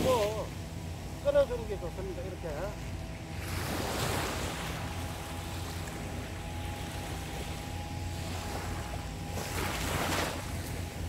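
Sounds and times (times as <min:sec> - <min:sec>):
sea waves washing onto beach: 0:00.0 - 0:11.0
steady low hum: 0:00.0 - 0:11.0.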